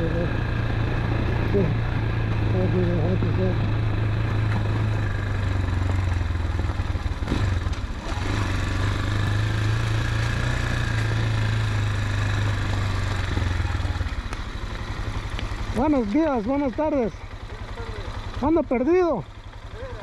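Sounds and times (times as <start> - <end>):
engine clatter: 0.0 - 20.0
motorcycle engine at low revs: 0.0 - 20.0.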